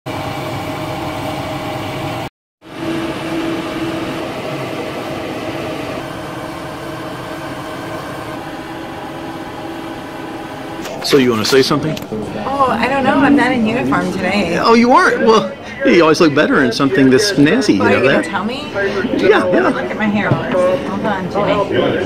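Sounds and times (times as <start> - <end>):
aircraft engines humming and whining: 0.1 - 22.0.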